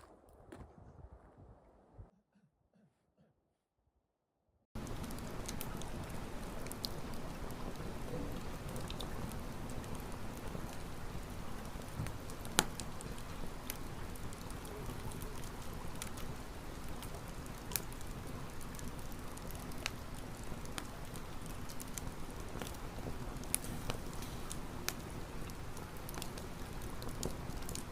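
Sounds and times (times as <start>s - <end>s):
campfire crackling and hissing: 4.8s - 27.9s.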